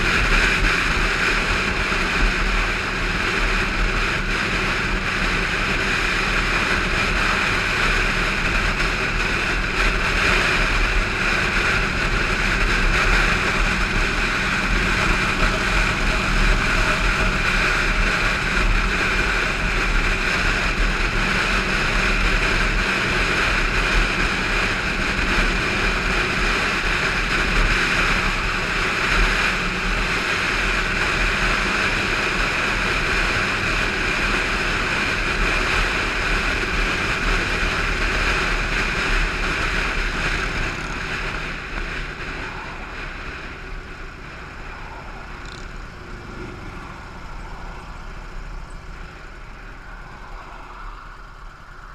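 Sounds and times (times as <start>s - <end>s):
motorcycle engine cruising: 0.0s - 51.9s
wind rushing over microphone: 0.0s - 51.9s.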